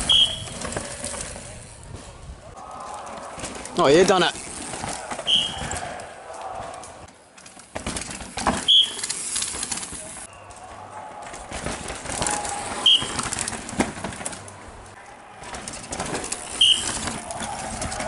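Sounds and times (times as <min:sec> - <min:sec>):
bike tyres skidding through dirt: 0:00.0 - 0:18.0.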